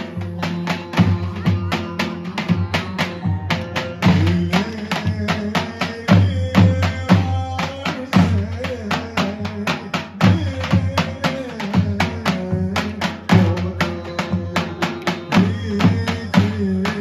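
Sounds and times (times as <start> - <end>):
large drum beating a dance rhythm: 0.0 - 17.0.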